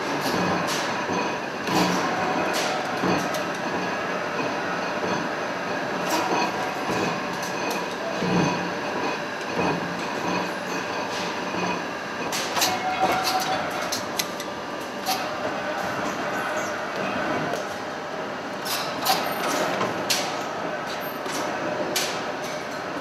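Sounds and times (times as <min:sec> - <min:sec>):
forge furnace and machinery din: 0:00.0 - 0:23.0.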